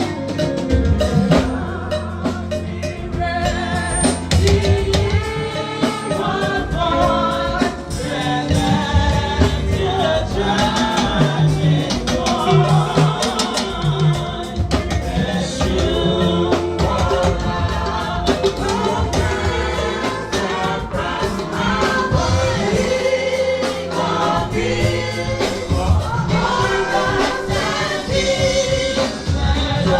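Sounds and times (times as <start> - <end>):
choir and congregation singing: 0.0 - 29.9
drums beating: 0.0 - 29.9.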